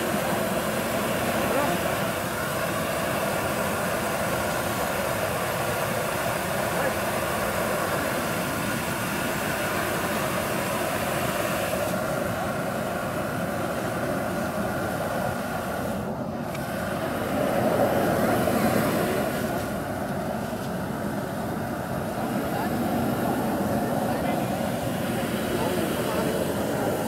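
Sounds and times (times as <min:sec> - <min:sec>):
gas torch burner roaring: 0:00.0 - 0:27.0.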